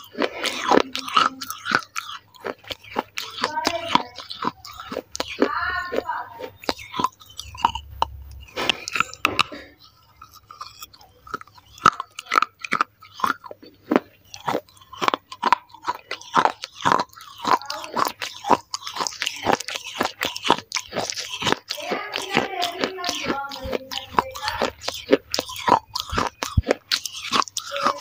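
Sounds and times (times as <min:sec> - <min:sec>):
clay pieces crunched by chewing: 0:00.0 - 0:28.0.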